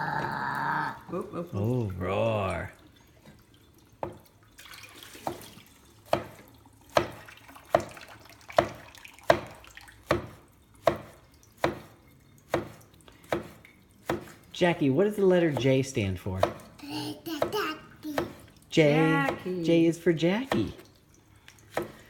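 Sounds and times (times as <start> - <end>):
toddler splashing in sink water: 0.0 - 14.7, 15.5 - 22.0.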